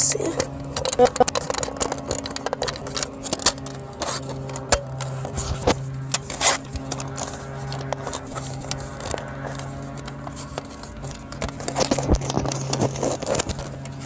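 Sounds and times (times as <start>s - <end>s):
steady low hum: 0.0s - 14.0s
plastic clicks and rattles: 0.2s - 14.0s.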